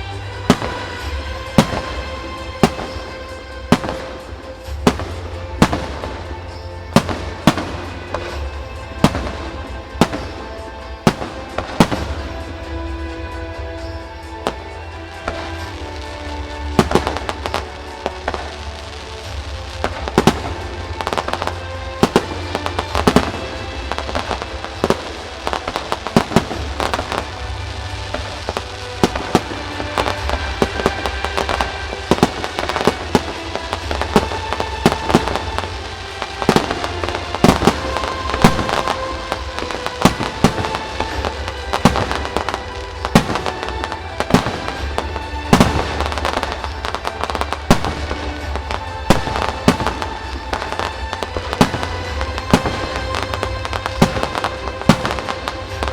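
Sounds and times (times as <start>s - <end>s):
fireworks bursting: 0.0s - 55.9s
music over a loudspeaker: 0.0s - 55.9s.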